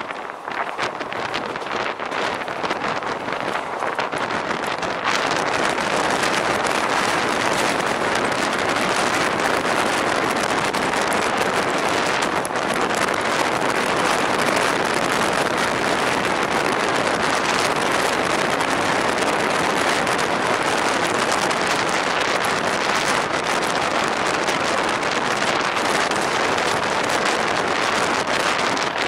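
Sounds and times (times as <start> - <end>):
electric train rushing on rails: 0.0 - 29.0.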